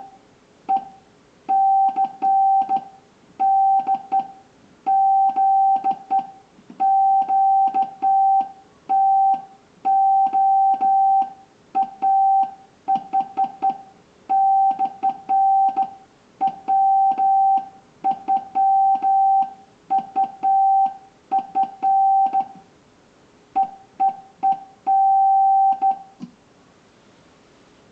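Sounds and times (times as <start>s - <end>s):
morse code sidetone beeps: 0.0s - 22.6s, 23.6s - 26.2s.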